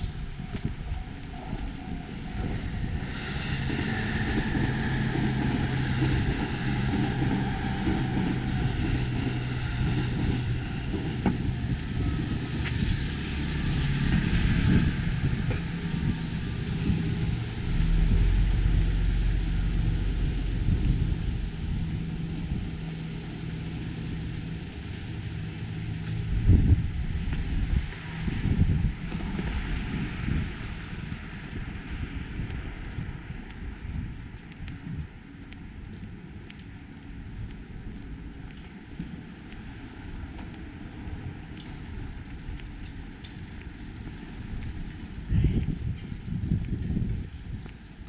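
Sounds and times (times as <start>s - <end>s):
deep vehicle rumble: 0.0s - 48.0s
traffic engine hum: 0.0s - 48.0s.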